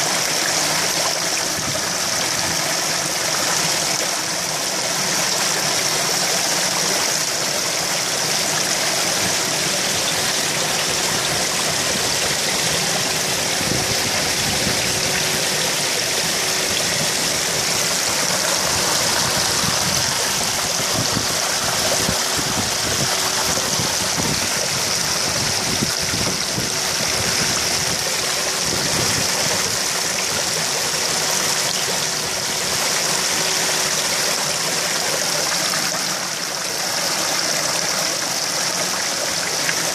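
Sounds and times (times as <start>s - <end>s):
bubbling aerated water: 0.0s - 39.9s
water rushing and splashing: 0.0s - 39.9s.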